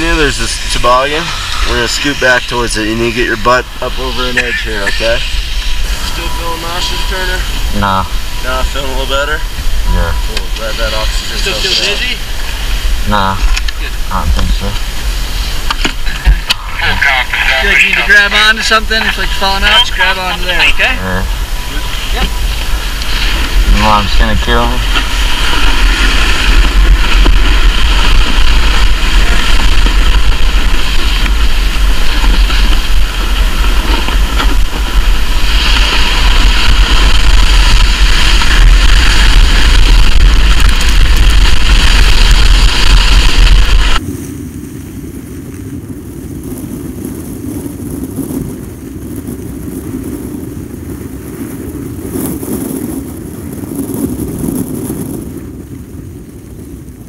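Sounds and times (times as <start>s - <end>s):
toboggan sliding on snow: 0.0s - 57.0s
wind buffeting the camera: 0.0s - 57.0s.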